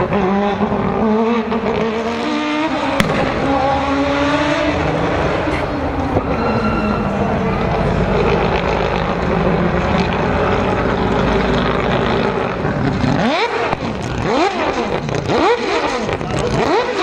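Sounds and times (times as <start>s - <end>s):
rotary engine running and revving: 0.0s - 17.0s.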